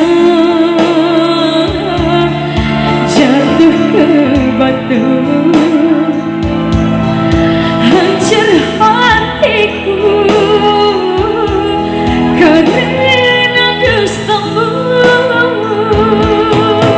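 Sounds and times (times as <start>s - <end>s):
instrumental accompaniment: 0.0s - 16.9s
person singing with vibrato: 0.0s - 16.9s.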